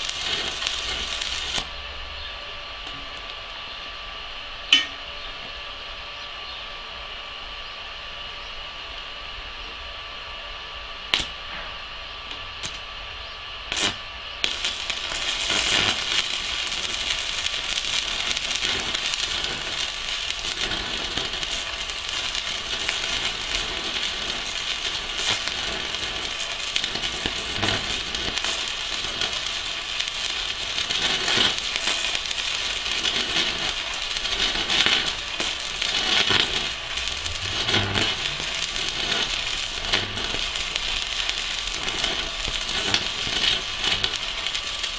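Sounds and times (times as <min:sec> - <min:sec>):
welding arc crackling and hissing: 0:00.0 - 0:06.0, 0:10.8 - 0:44.9.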